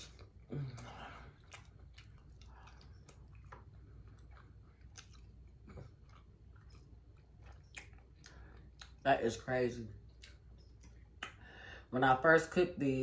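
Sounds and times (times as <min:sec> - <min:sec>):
person chewing food: 0:00.0 - 0:09.1, 0:10.0 - 0:11.6.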